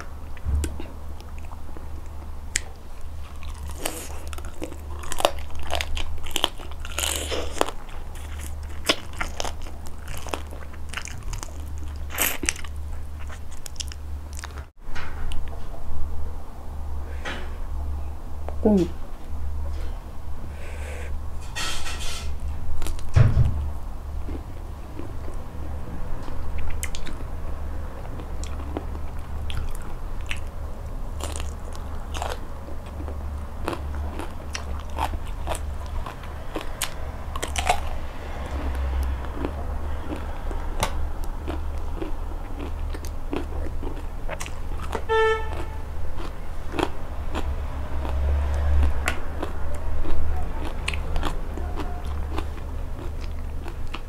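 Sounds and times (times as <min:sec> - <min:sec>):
crunchy chewing: 0:00.0 - 0:14.7, 0:24.2 - 0:54.0.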